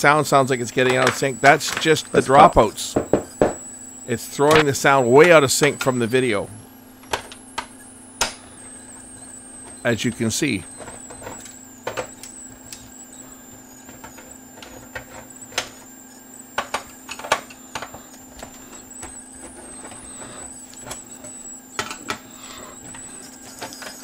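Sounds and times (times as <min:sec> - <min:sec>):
faint high whine: 0:00.0 - 0:24.0
steady low hum: 0:00.0 - 0:24.0.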